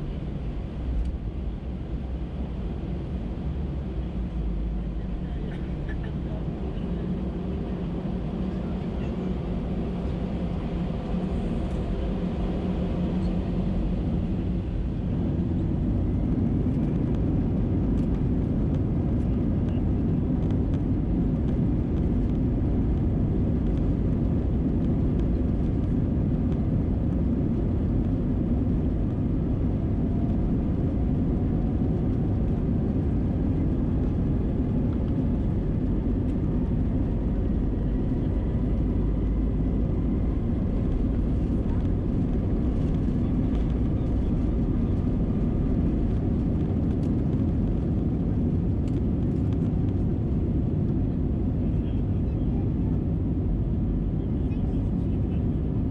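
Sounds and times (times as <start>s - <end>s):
jet engine cabin rumble: 0.0s - 55.9s.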